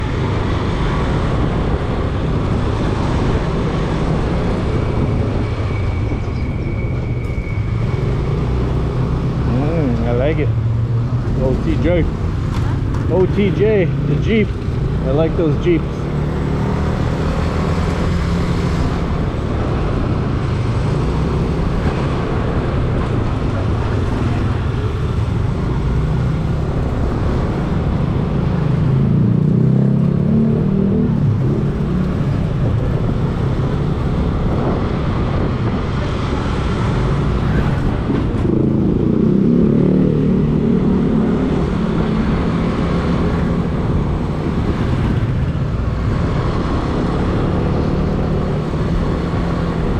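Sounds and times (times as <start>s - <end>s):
road traffic noise: 0.0s - 49.9s.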